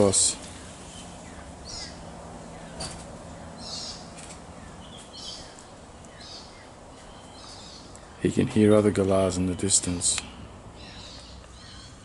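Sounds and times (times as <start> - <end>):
background hiss: 0.0 - 12.0
distant birds screeching: 0.0 - 12.0.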